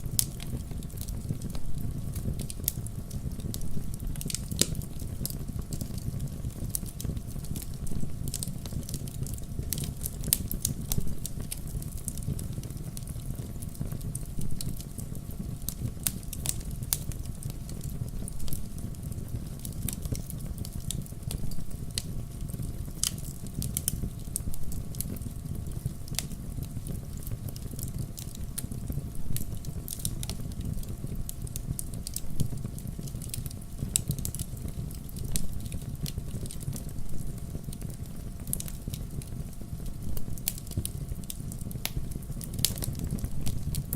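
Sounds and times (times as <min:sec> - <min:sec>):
wood fire burning: 0:00.0 - 0:43.9.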